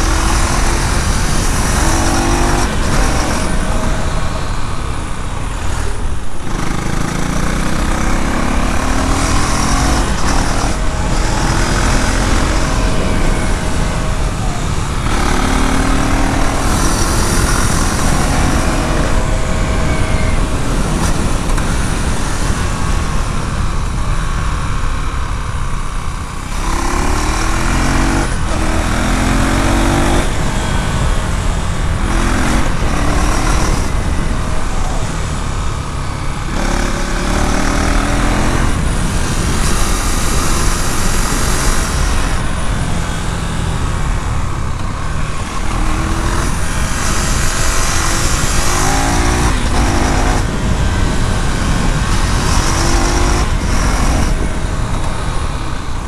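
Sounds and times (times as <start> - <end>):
motorcycle engine and exhaust: 0.0 - 56.0
wind rush: 0.0 - 56.0.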